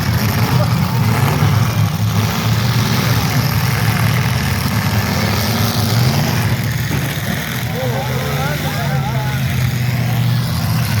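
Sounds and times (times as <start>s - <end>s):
car engines rumbling: 0.0s - 11.0s.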